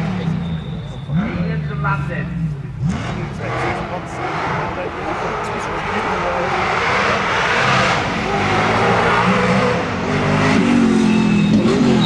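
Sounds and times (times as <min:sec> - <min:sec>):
rally car engine driven hard: 0:00.0 - 0:12.0.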